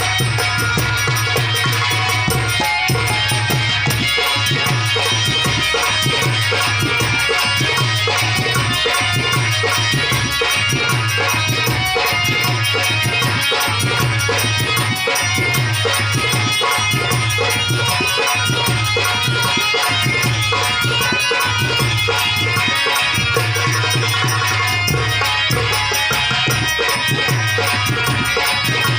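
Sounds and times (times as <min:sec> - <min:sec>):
drum accompaniment: 0:00.0 - 0:28.9
harmonium melody: 0:00.0 - 0:28.9.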